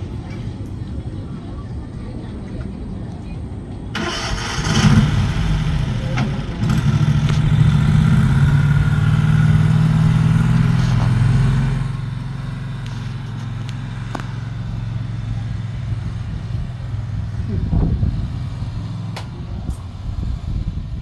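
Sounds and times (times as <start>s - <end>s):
utility cart engine running: 0.0s - 21.0s.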